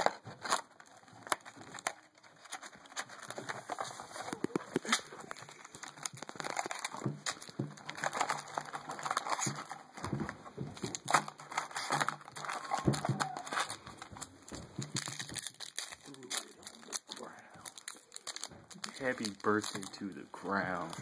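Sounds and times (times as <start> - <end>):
cards being handled: 0.0 - 21.0
foil packs crinkling: 0.0 - 21.0.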